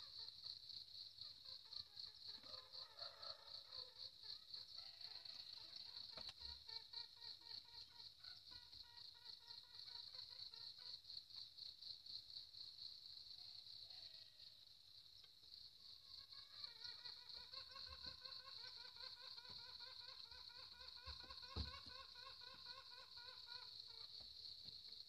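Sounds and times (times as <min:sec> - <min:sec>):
insect trill: 0:00.0 - 0:25.0.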